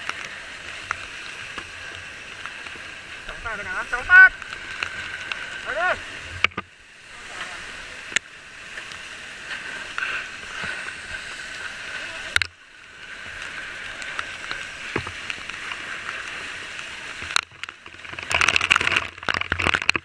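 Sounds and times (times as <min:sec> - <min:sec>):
fire hose spraying water: 0:00.0 - 0:20.0.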